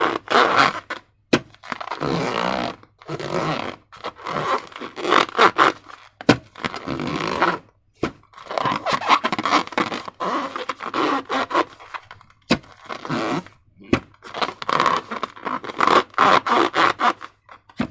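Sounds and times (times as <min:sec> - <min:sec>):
balloons scraping and crinkling: 0:00.0 - 0:17.9.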